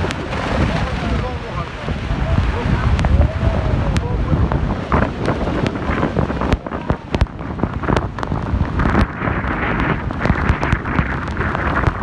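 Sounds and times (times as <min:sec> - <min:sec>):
rushing water and spray: 0:00.0 - 0:12.0
wind buffeting microphone: 0:00.0 - 0:12.0.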